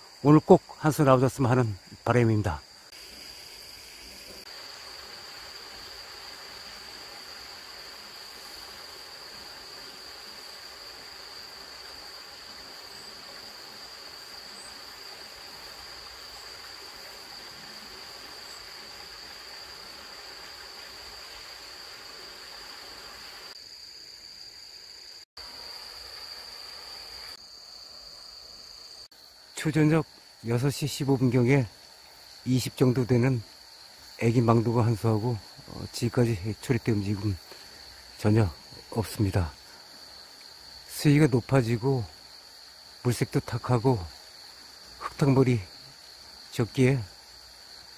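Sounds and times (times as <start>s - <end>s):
crickets trilling: 0.0s - 47.9s
faint outdoor hiss: 0.0s - 47.9s.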